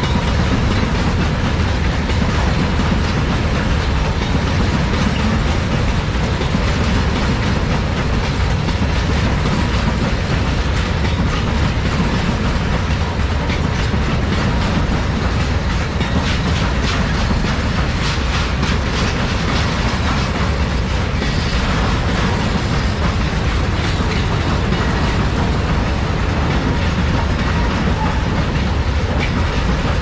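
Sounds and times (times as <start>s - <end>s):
wagon wheels clattering over rail joints: 0.0s - 30.0s.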